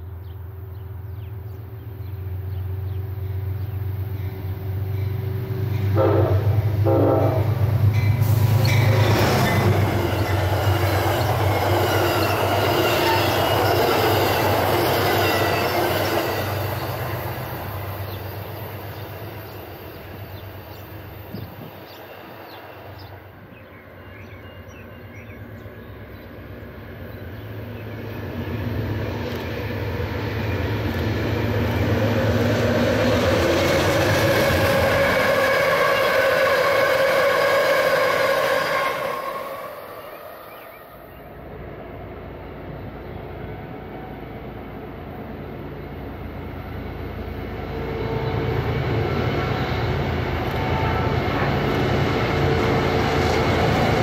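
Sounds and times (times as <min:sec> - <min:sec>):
diesel locomotive droning: 0:00.0 - 0:54.0
train wheels on rails: 0:00.3 - 0:41.1, 0:43.3 - 0:54.0.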